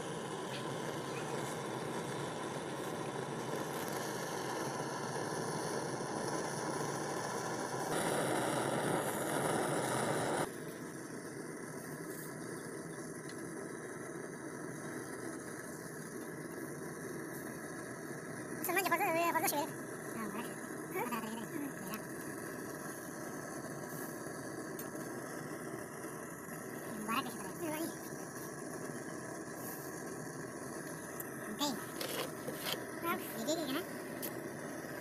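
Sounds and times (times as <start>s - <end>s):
mechanical running noise: 0.0s - 35.0s.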